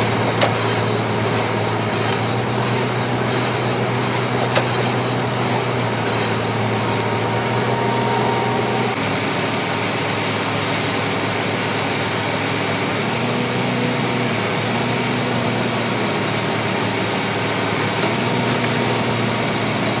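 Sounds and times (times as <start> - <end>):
baling machine droning: 0.0 - 19.8.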